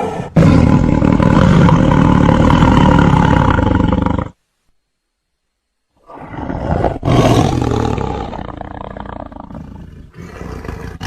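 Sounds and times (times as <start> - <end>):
tiger roaring: 0.0 - 4.4, 6.0 - 11.0.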